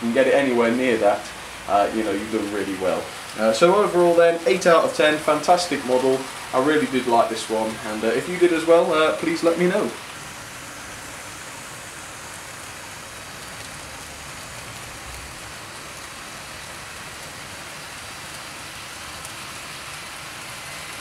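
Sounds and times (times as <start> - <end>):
model train motor and wheels: 0.0 - 21.0.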